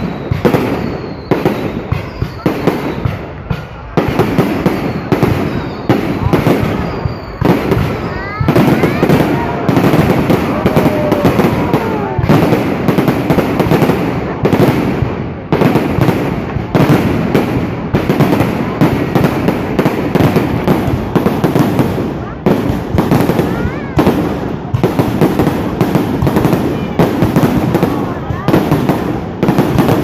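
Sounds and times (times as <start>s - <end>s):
fireworks banging and crackling: 0.0s - 30.0s
whistling fireworks: 0.0s - 30.0s.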